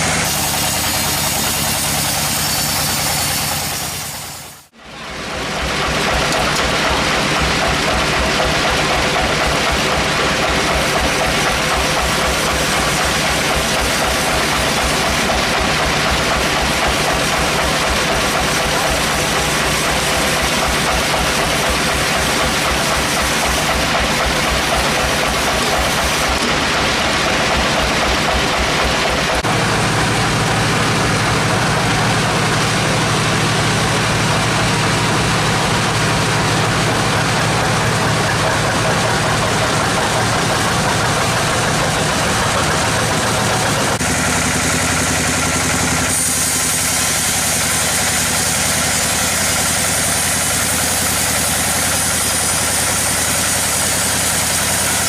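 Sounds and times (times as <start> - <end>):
engine-driven saw cutting logs: 0.0 - 55.0.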